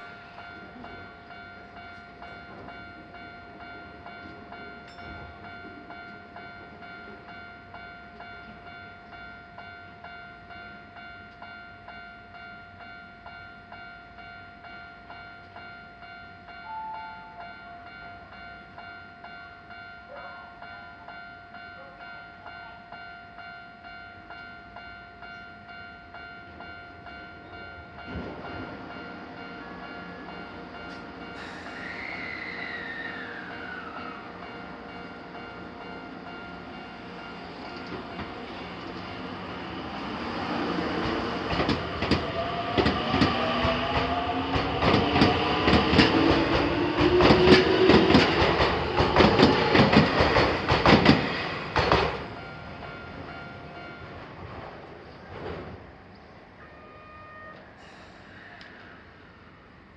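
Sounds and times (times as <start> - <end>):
level-crossing bell dinging: 0.0 - 54.4
electric train rumble: 0.0 - 59.9.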